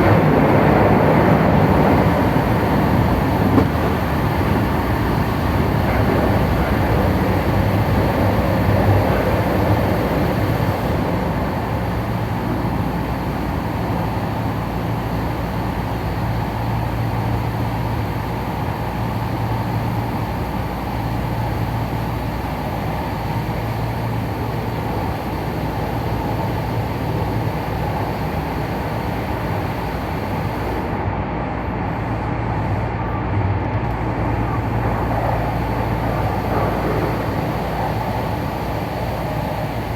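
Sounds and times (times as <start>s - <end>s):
train wheels rumbling: 0.0s - 29.9s, 33.8s - 39.9s.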